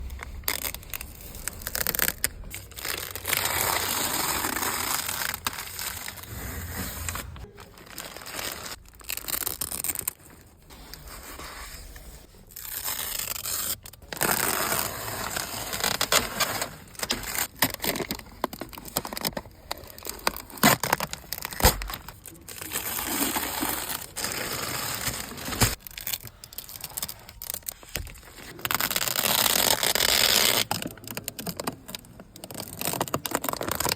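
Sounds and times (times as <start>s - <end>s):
plastic wrapping being torn off: 0.0s - 10.3s, 12.5s - 33.9s.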